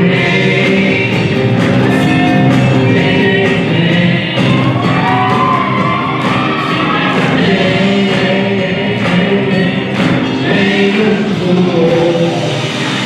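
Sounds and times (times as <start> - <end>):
live rock band playing: 0.0 - 13.0
person singing: 0.0 - 13.0
steady drum beat: 0.0 - 13.0.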